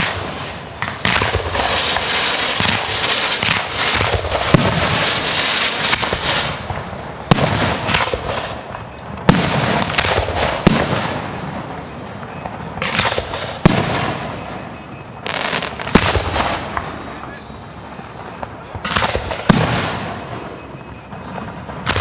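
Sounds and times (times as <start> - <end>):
crackle of sparkling fireworks: 0.0 - 22.0
fireworks bursting with sharp bangs: 0.0 - 22.0.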